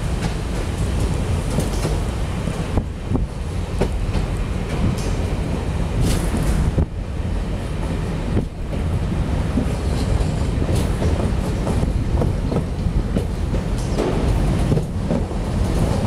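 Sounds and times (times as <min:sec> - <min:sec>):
wheels clicking over rail joints: 0:00.0 - 0:07.0, 0:07.7 - 0:16.0
train wheels rumbling on rail: 0:00.0 - 0:16.0.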